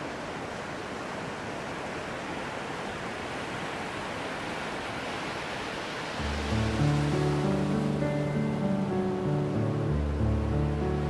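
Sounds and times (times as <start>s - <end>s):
waves breaking on a beach: 0.0s - 11.0s.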